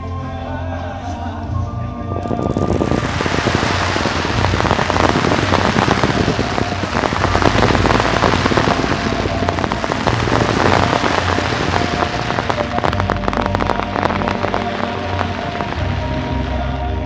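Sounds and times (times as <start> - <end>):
fireworks crackling: 2.2 - 17.0.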